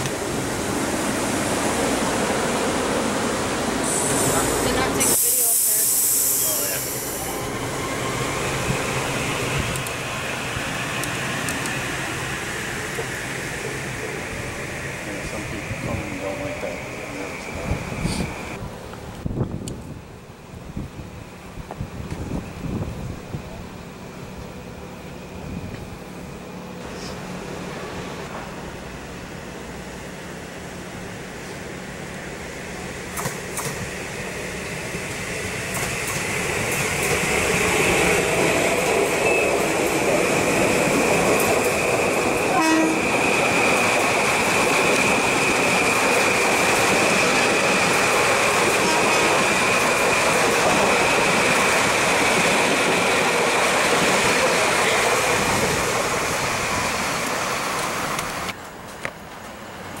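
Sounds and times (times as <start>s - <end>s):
train wheels rushing: 0.0s - 19.9s, 30.9s - 60.0s.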